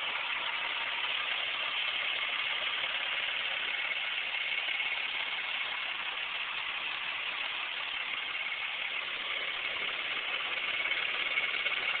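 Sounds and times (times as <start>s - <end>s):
car engine idling: 0.0s - 12.0s
engine clicking noise: 0.0s - 12.0s.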